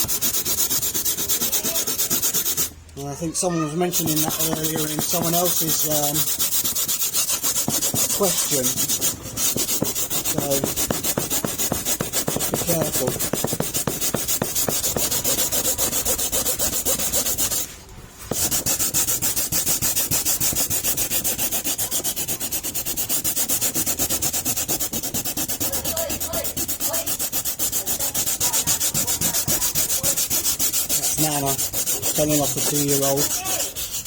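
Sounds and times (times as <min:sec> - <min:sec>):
sandpaper rubbing back and forth: 0:00.0 - 0:02.7, 0:03.3 - 0:34.0.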